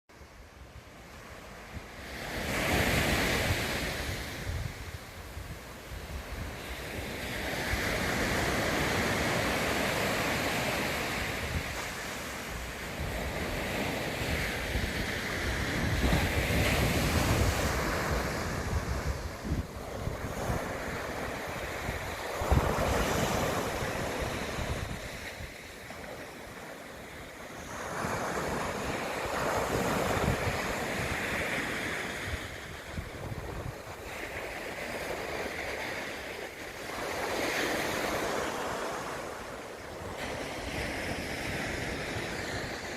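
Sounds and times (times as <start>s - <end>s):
sea waves breaking on shore: 0.2s - 42.9s
wind buffeting microphone: 0.9s - 38.2s.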